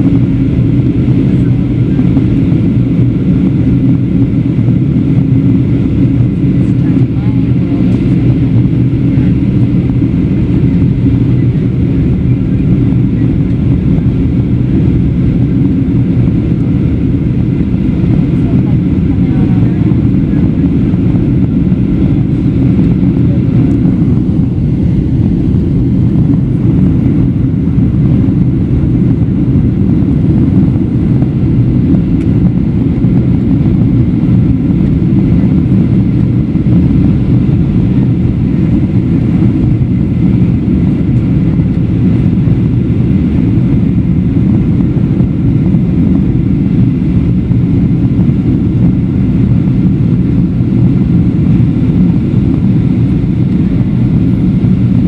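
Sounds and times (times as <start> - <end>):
airflow over airframe: 0.0 - 55.0
jet engines running: 0.0 - 55.0.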